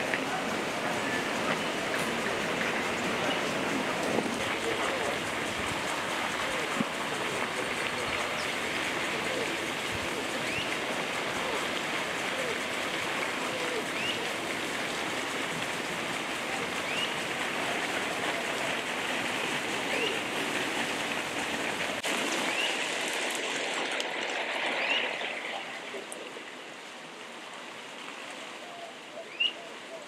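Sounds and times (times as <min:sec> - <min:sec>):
forest ambience hiss: 0:00.0 - 0:30.0.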